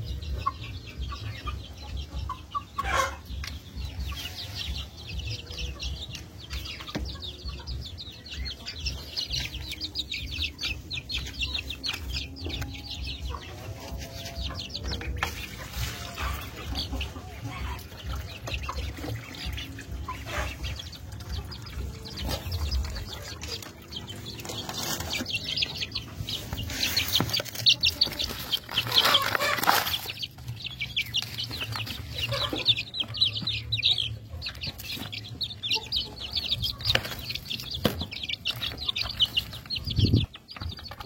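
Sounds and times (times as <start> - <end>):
chickens clucking and calling: 0.0 - 41.0.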